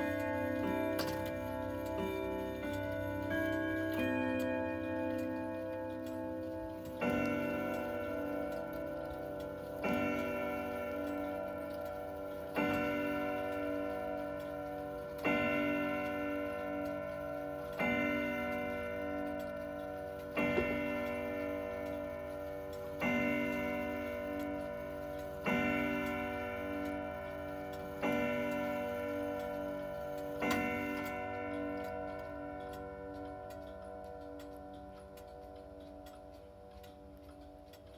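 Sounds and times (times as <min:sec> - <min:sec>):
clock striking on gong rods: 0:00.0 - 0:37.9.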